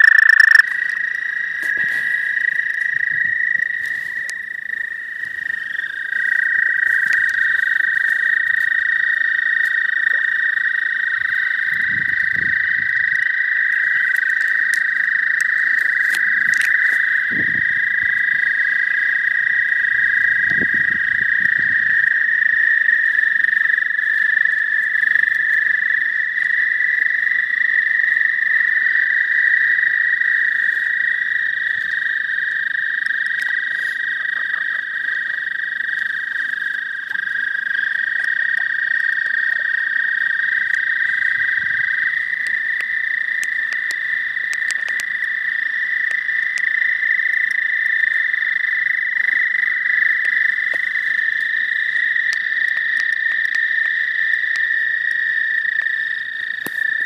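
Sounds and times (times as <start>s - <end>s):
toads trilling: 0.0s - 57.0s.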